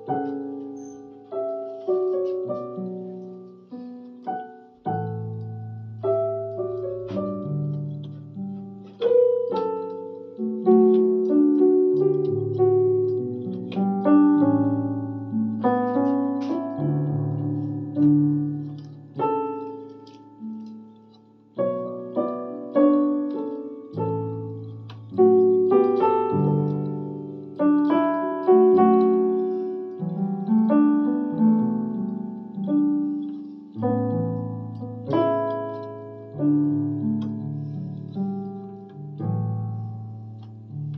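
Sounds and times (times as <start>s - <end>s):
electronic keyboard piano melody: 0.0s - 40.9s.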